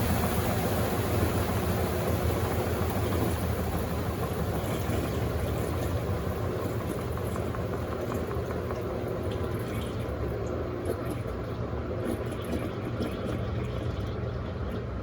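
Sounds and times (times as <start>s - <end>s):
water rushing out draining: 0.0s - 14.9s
washing machine humming: 0.0s - 15.0s.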